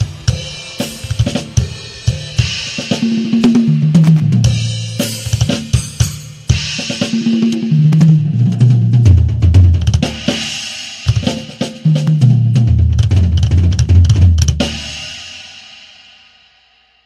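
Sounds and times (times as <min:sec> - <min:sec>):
acoustic drum kit playing: 0:00.0 - 0:15.6
recorded song: 0:00.0 - 0:17.0.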